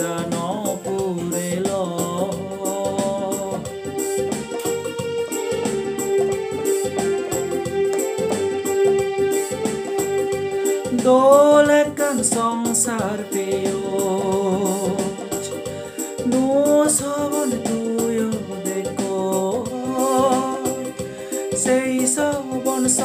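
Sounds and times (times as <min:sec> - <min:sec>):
electronic keyboard melody: 0:00.0 - 0:23.0
steady beat: 0:00.0 - 0:23.0.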